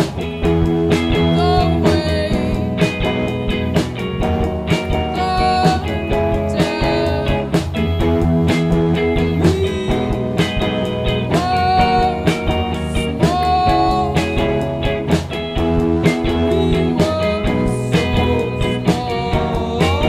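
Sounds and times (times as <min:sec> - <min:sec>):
rock music with guitar and drums: 0:00.0 - 0:20.0.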